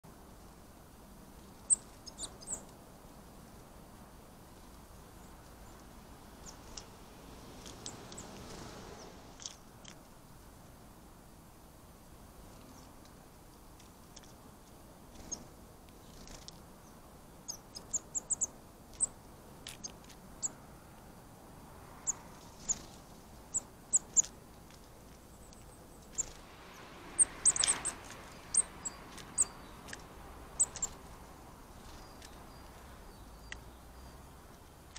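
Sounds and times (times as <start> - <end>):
songbirds chipping: 0.0 - 10.8, 11.5 - 34.9
soft background rush: 0.0 - 34.9.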